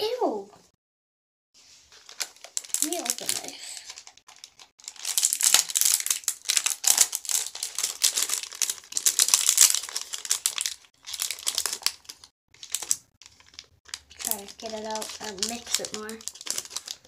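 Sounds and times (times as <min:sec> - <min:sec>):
plastic packet crinkling: 0:01.8 - 0:17.0.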